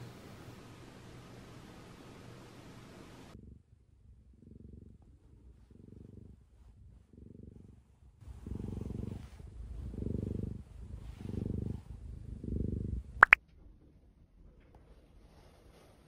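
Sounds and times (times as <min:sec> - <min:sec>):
cat purring: 0:00.0 - 0:13.3.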